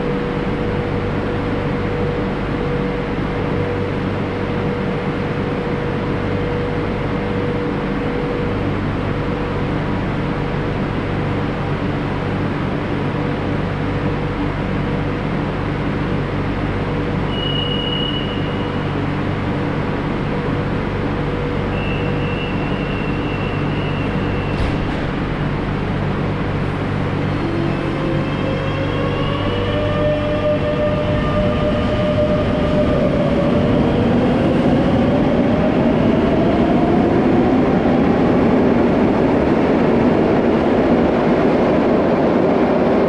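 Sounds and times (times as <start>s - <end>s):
metro train running: 0.0s - 43.0s.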